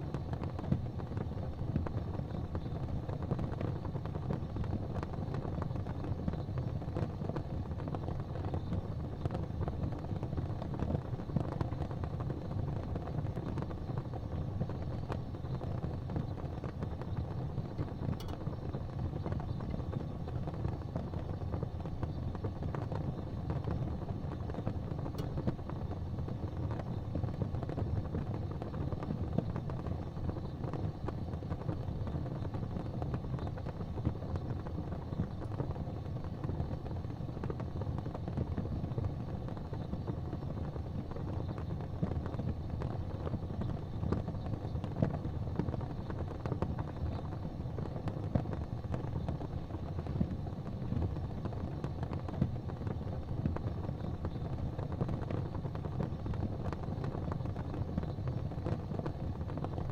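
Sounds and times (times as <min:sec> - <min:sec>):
faint fire crackles: 0:00.0 - 0:59.9
fire rumbling in fireplace: 0:00.0 - 0:59.9.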